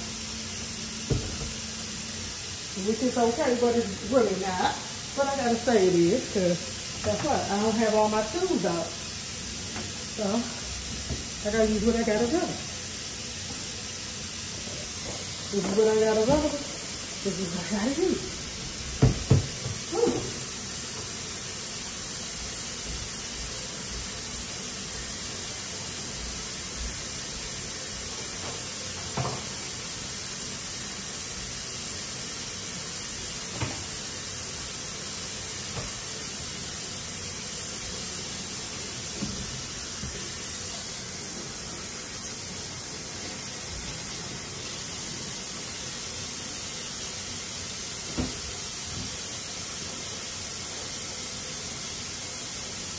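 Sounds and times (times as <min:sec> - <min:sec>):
steady hiss: 0:00.0 - 0:52.9.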